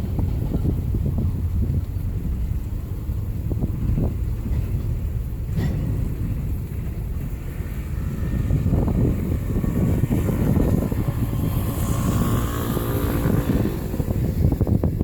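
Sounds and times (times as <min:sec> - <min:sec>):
large vehicle rumbling past: 0:00.0 - 0:15.0.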